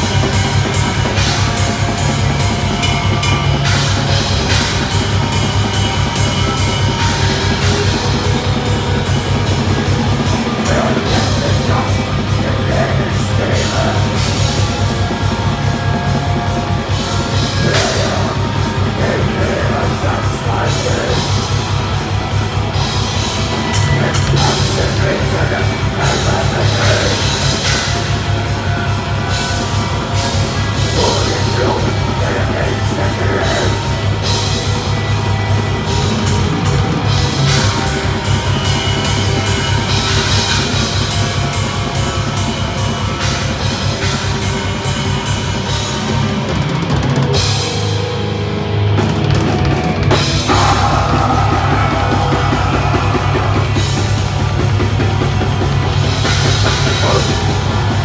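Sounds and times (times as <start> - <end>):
distorted guitars: 0.0 - 58.0
metal band playing live: 0.0 - 58.0
rapid drumming with cymbals: 0.0 - 58.0.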